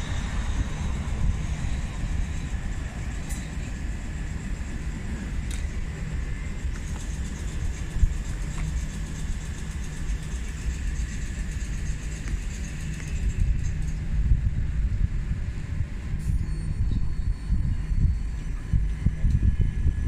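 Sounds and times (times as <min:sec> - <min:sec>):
faint high whine: 0:00.0 - 0:20.0
train rumbling: 0:00.0 - 0:20.0.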